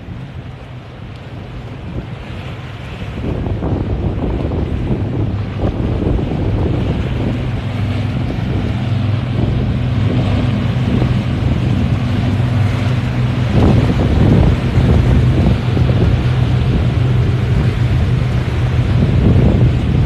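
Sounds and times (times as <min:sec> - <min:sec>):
powerboat engines droning: 0:00.0 - 0:20.0
wind buffeting microphone: 0:00.0 - 0:20.0.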